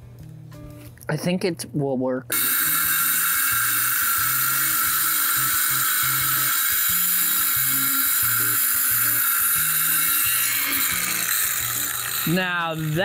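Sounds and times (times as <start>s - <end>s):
circular saw cutting plywood: 2.3s - 13.0s.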